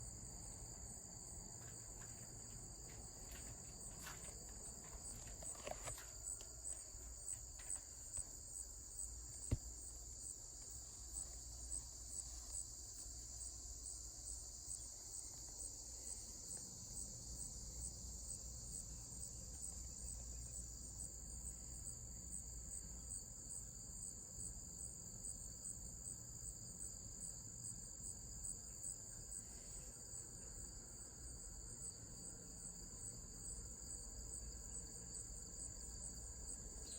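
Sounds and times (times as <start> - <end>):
crickets chirping: 0.0 - 36.9.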